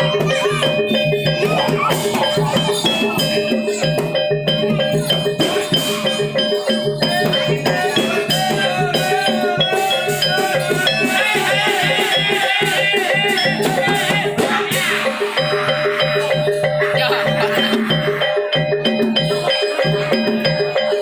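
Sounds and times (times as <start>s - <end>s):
fast percussion music with melody: 0.0s - 21.0s.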